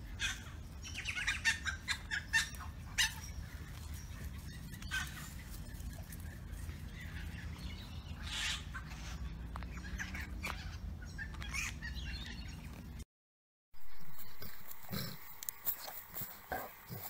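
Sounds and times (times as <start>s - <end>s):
birds chirping: 0.0s - 13.0s, 13.8s - 17.0s.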